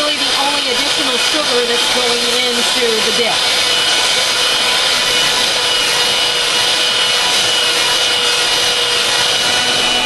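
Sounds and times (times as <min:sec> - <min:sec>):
electric mixer whipping cream: 0:00.0 - 0:10.0.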